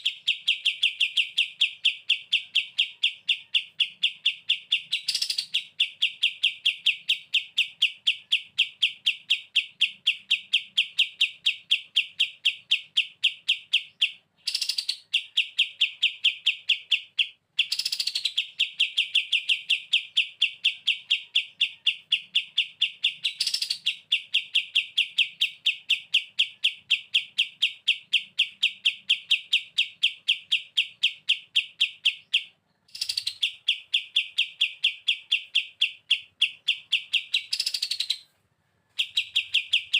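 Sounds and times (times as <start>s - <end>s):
bulbul singing rapid chirps: 0.0s - 38.3s, 38.9s - 39.9s.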